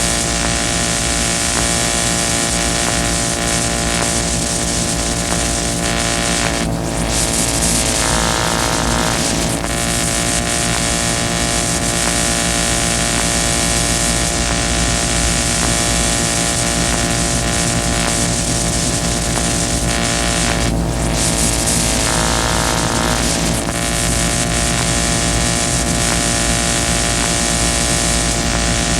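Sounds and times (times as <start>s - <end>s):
droning hums: 0.0s - 28.9s
loud dense hiss: 0.0s - 28.9s.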